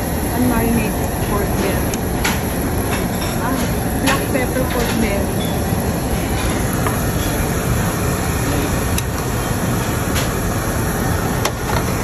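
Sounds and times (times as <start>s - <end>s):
ventilation rushing: 0.0s - 12.0s.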